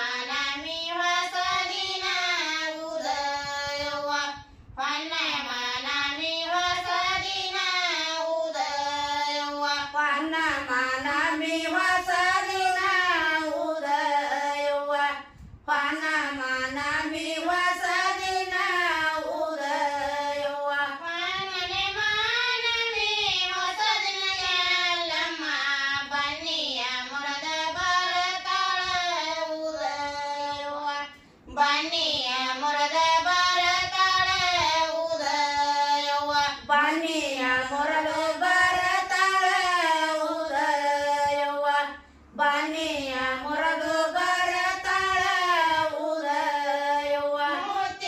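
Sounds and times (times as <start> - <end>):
women singing folk song: 0.0 - 48.0.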